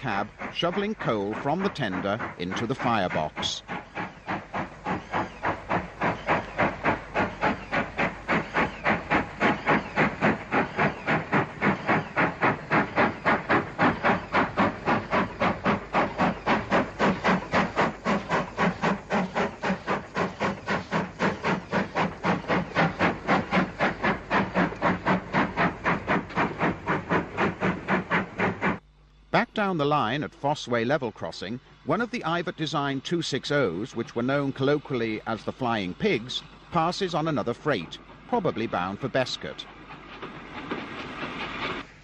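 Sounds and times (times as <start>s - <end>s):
steam locomotive chuffing: 0.0s - 42.0s.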